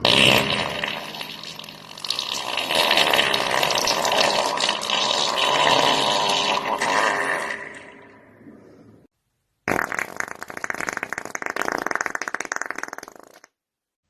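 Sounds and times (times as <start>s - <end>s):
wet bubbling fart: 0.0s - 8.1s, 9.7s - 13.6s.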